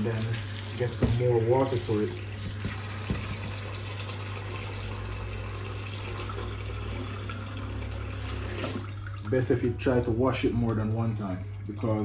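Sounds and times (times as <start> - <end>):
tap water running into container: 0.0 - 12.0.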